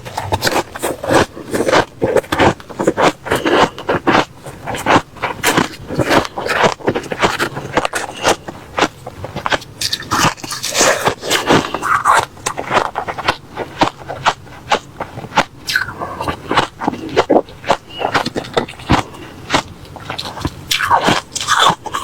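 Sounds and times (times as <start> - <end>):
crunching ice: 0.0 - 22.0.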